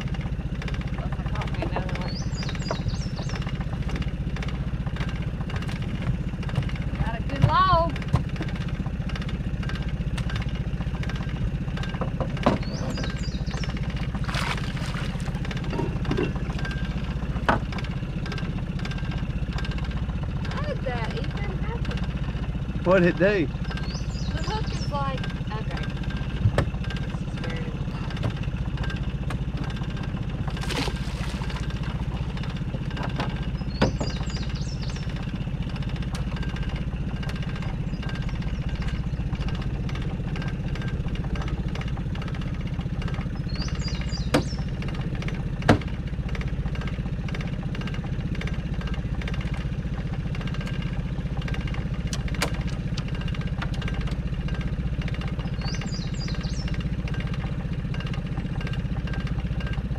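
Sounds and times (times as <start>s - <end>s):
outboard motor idling: 0.0s - 59.9s.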